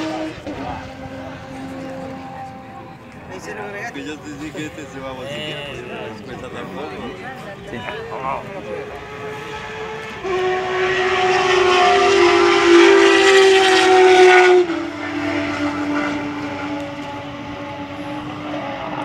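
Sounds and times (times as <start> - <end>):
distant car engines: 0.0 - 19.0
race car engines at high revs: 0.0 - 19.0.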